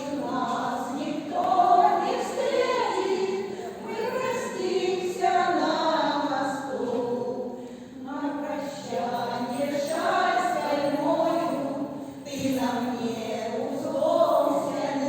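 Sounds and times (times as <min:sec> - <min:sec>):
choir singing in unison: 0:00.0 - 0:15.0.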